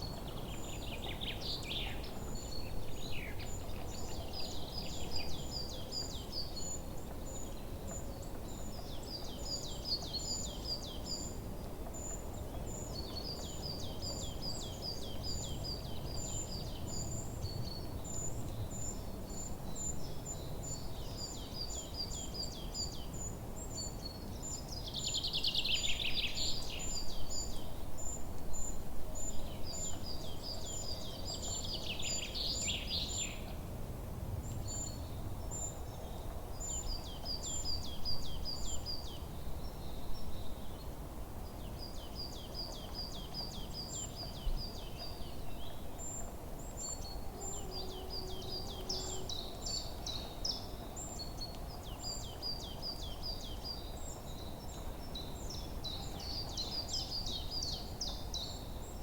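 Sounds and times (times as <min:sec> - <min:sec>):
songbirds singing: 0:00.0 - 0:33.6, 0:34.4 - 0:59.0.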